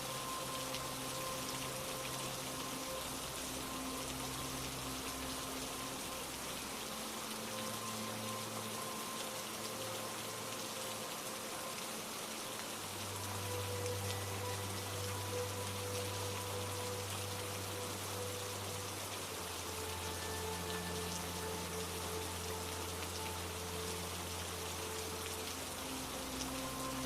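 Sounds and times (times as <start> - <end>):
soft ambient music: 0.0 - 27.0
steady rain falling: 0.0 - 27.0.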